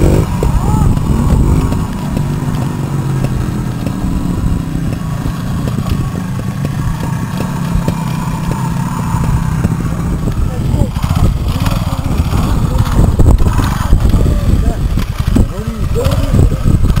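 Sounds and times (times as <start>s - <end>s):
two-stroke motorcycle riding away: 0.0s - 17.0s.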